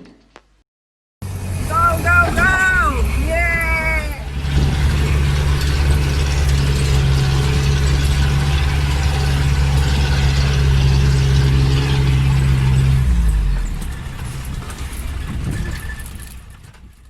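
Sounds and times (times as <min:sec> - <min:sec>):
engine humming: 0:01.2 - 0:17.0.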